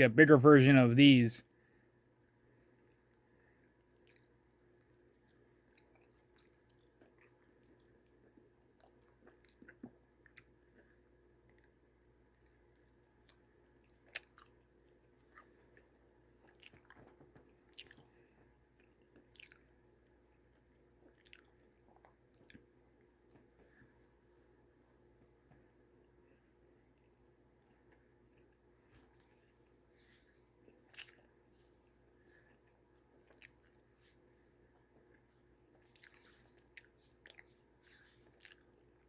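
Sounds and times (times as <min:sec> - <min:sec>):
chewing crunchy food: 0:02.4 - 0:39.0.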